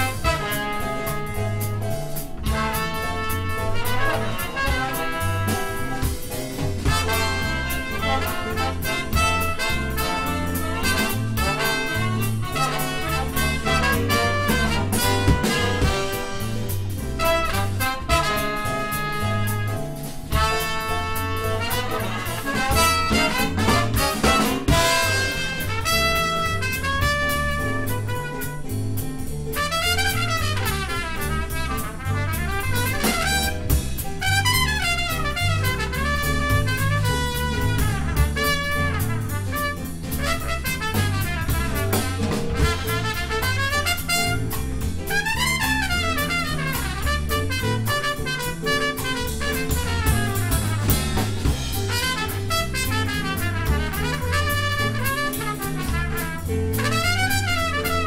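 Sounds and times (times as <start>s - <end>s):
trumpet soloing: 0.0s - 28.8s, 29.5s - 58.0s
jazz rhythm section with drums: 0.0s - 58.0s.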